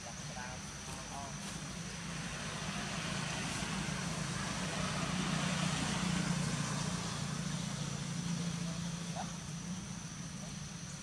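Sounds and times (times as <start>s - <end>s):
low engine hum: 0.3s - 11.0s.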